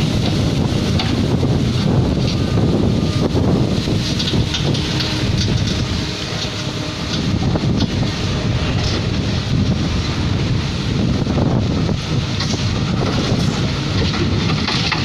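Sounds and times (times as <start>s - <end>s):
excavator diesel engine running: 0.0s - 15.0s
wind buffeting microphone: 0.0s - 15.0s.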